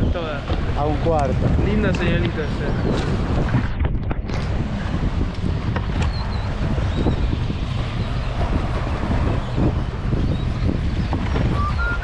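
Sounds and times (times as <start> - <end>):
choppy river water: 0.0 - 12.0
wind rumbling on microphone: 0.0 - 12.0.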